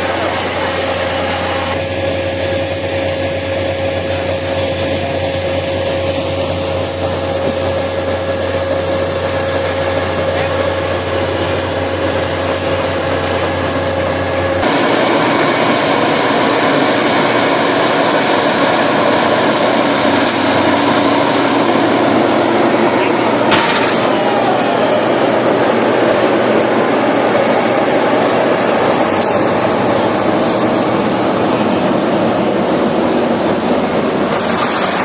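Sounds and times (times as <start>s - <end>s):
farm machinery running: 0.0s - 35.0s.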